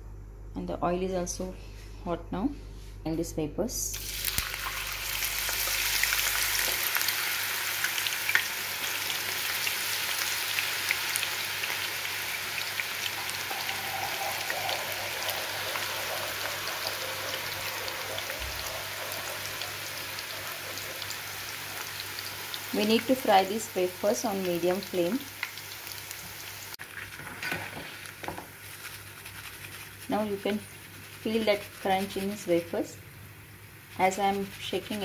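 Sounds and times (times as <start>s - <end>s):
banana slices deep-frying in oil: 3.9s - 33.0s, 33.7s - 35.0s.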